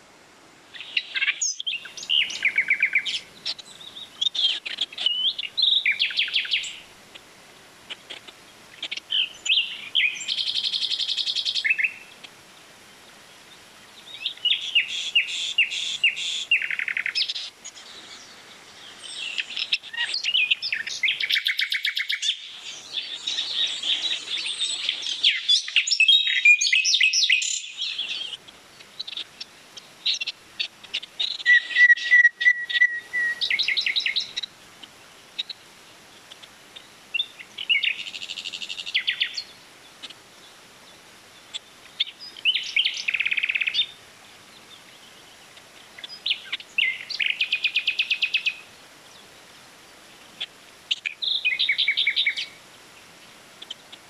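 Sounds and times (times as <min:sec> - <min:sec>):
songbirds singing: 0:00.6 - 0:54.0.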